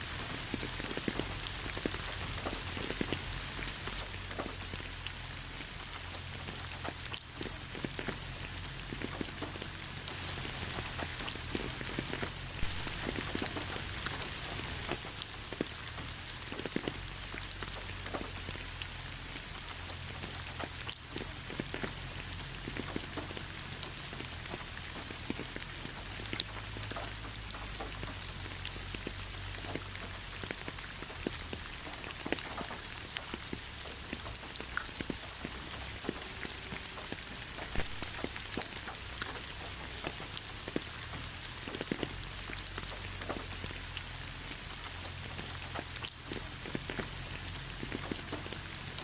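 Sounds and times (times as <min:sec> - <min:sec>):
rain pattering on a surface: 0:00.0 - 0:49.0.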